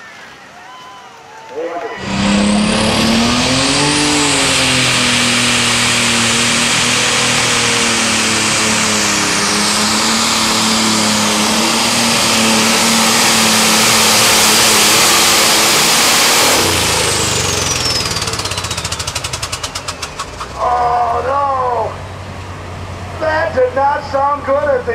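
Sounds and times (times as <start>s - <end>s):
tractor engine running hard: 2.0s - 24.9s.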